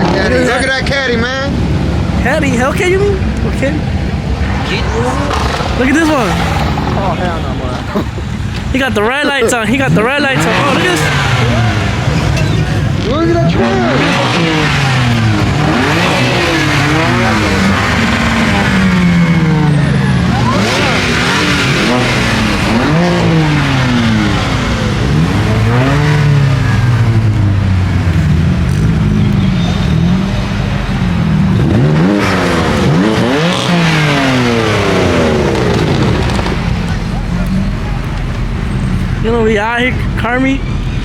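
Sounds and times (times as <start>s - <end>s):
car engines revving hard: 0.0s - 41.0s.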